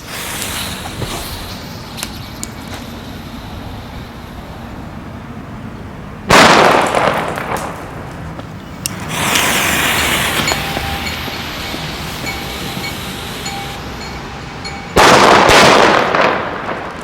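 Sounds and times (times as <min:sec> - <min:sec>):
firecracker bang: 0:00.0 - 0:04.9, 0:06.3 - 0:13.4, 0:14.7 - 0:17.0
rushing noise: 0:00.0 - 0:17.0.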